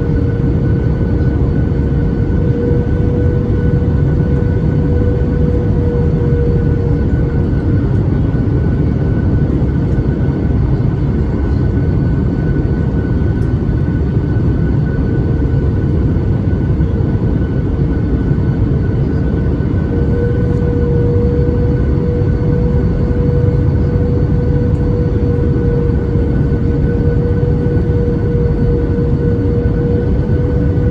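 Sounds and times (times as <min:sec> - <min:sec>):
steady engine tone: 0:00.0 - 0:11.7, 0:12.3 - 0:30.9
airplane cabin rumble: 0:00.0 - 0:30.9.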